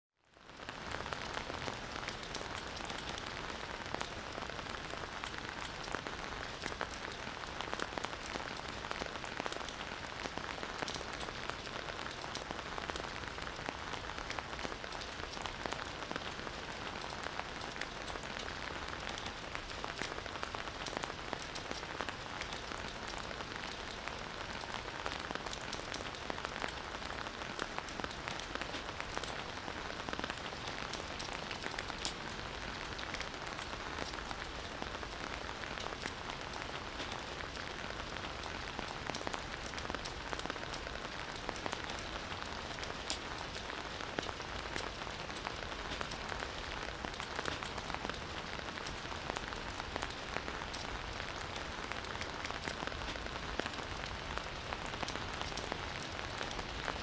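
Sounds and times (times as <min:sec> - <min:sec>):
campfire crackling and popping: 0:00.5 - 0:57.0.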